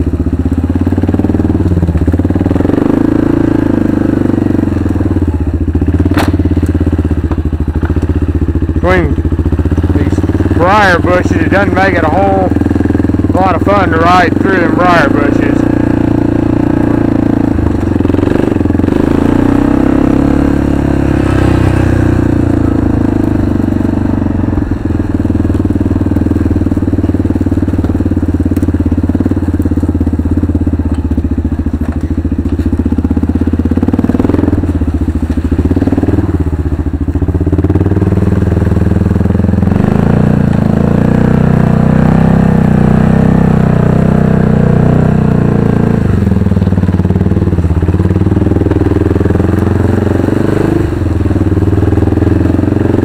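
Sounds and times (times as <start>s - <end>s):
atv engine running under throttle: 0.0s - 53.0s.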